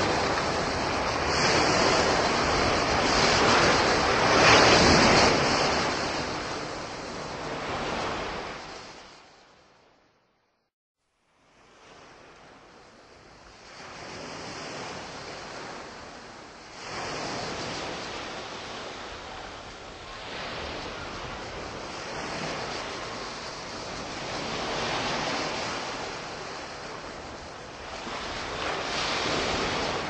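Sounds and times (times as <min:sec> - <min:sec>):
sea waves washing ashore: 0:00.0 - 0:09.9, 0:11.3 - 0:30.0.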